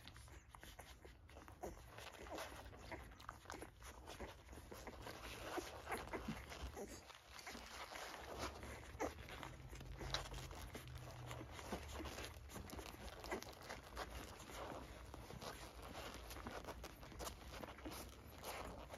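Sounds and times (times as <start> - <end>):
puppies suckling: 0.0 - 18.9
puppy squeaks and grunts: 0.0 - 18.9.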